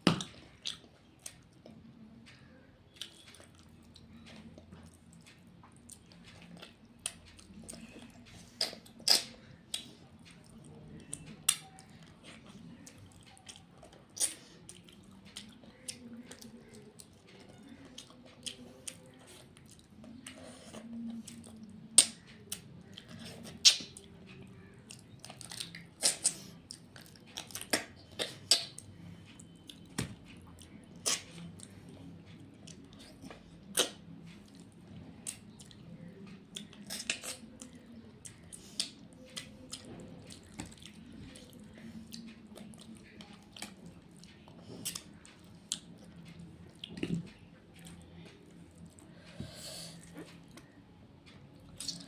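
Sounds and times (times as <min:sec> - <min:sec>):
faint low hum: 0:00.0 - 0:52.0
wet chewing and lip-smacking: 0:00.0 - 0:52.0.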